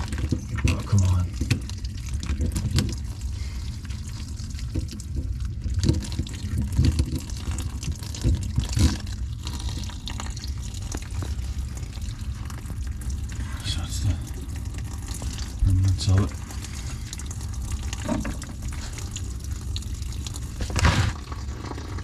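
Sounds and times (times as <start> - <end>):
water running and dripping: 0.0 - 22.0.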